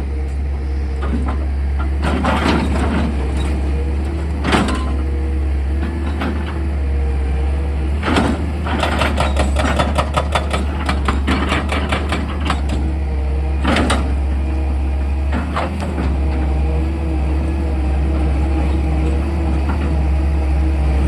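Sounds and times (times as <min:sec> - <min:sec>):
excavator diesel engine humming: 0:00.0 - 0:21.0.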